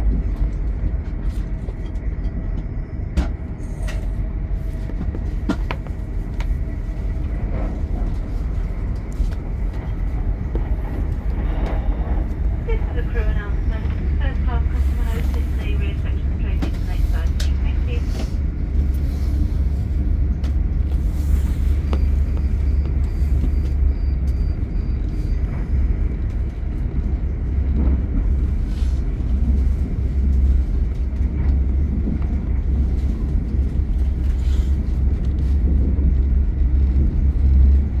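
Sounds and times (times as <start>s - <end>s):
train rumbling in motion: 0.0s - 38.0s.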